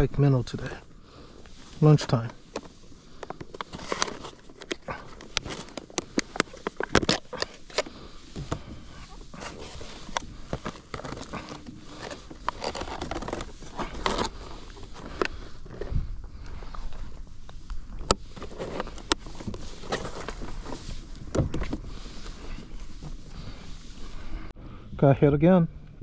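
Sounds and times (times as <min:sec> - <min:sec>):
gear being handled: 0:01.5 - 0:24.4.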